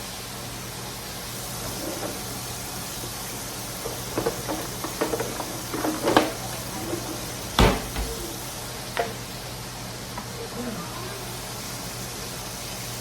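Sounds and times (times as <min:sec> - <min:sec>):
frying hiss: 0:00.0 - 0:13.0.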